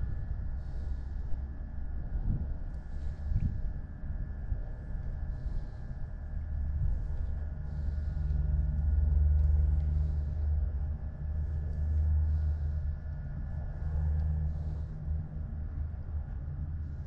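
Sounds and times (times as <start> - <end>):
faint steady whine: 0.0 - 17.0
pulsing low rumble: 0.0 - 17.0.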